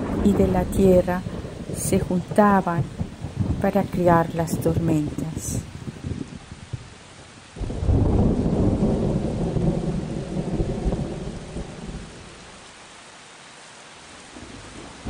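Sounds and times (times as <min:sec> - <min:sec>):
thunder rumbling: 0:00.0 - 0:12.6
steady rain: 0:00.0 - 0:15.0.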